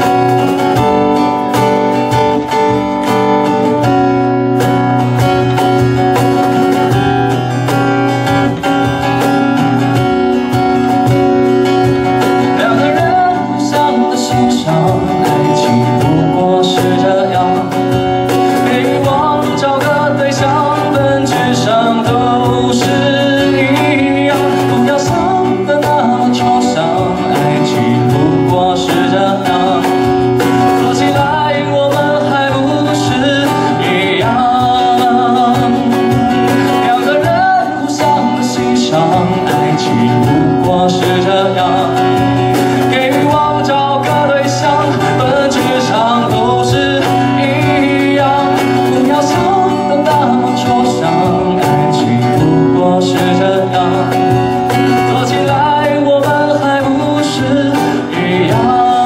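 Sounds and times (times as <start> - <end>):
acoustic guitar strumming: 0.0 - 59.0
man singing: 0.0 - 59.0.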